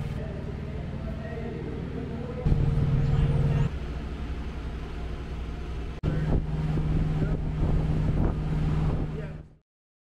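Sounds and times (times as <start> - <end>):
low mechanical hum: 0.0 - 9.6.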